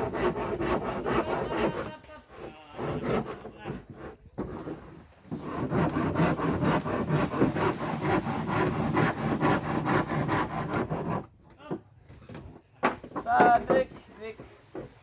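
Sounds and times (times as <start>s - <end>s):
hand tool working wood: 0.0s - 15.0s.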